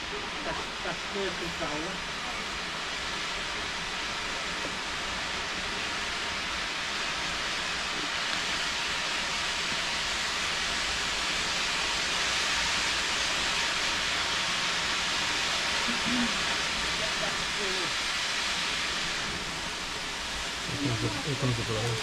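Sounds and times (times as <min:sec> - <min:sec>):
firework fountain hissing: 0:00.0 - 0:22.0.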